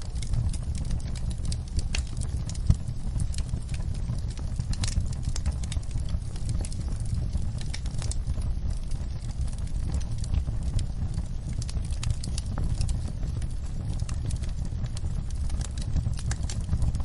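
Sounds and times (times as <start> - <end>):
wood fire crackling: 0.0 - 17.0
sharp pops and snaps: 0.1 - 17.0.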